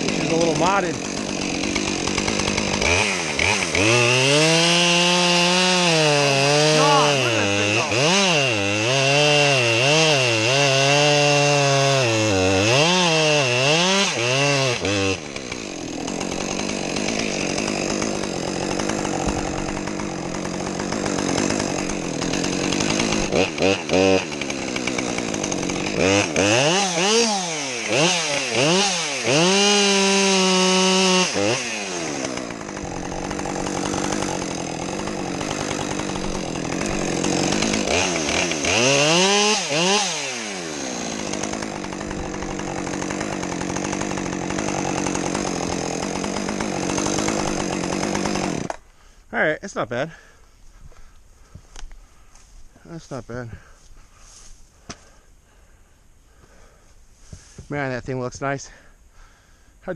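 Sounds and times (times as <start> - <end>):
chainsaw revving and cutting wood: 0.0 - 50.4.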